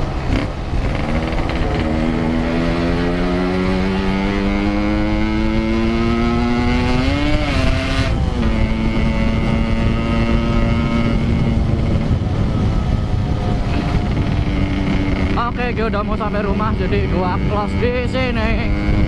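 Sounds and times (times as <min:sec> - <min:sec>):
wind rumble on microphone: 0:00.0 - 0:19.0
two-stroke motorcycle engine: 0:00.1 - 0:19.0.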